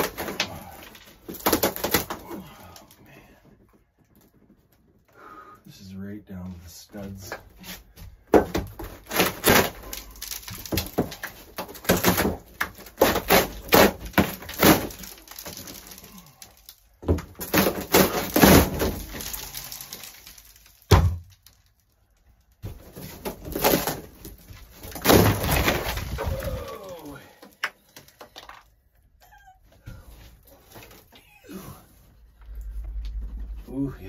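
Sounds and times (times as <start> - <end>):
ceiling panel cracking and snapping: 0.0 - 5.1, 7.3 - 28.8, 29.8 - 33.5.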